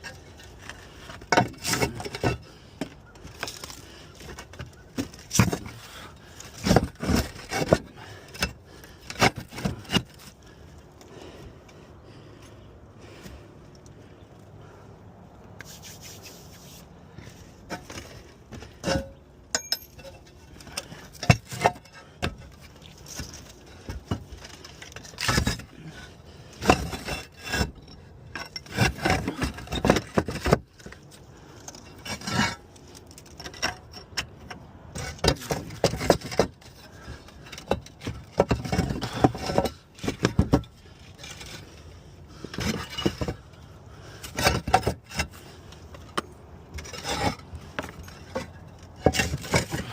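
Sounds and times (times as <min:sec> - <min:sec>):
roof tiles clinking and scraping: 0:00.0 - 0:10.4, 0:17.2 - 0:49.9.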